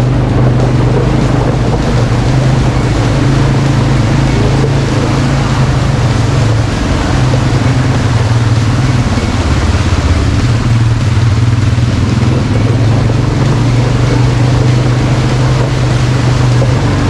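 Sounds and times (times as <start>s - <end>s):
quad bike engine running: 0.0s - 17.0s
rushing noise: 0.0s - 17.0s.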